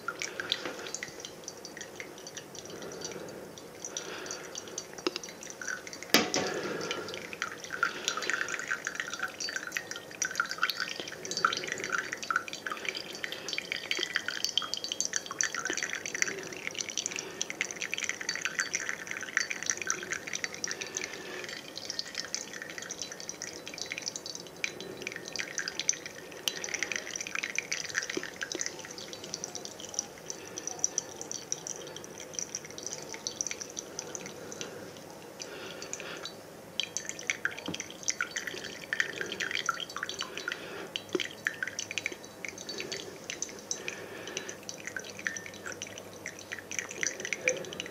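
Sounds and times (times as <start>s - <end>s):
coffee dripping into a mug: 0.0s - 47.9s.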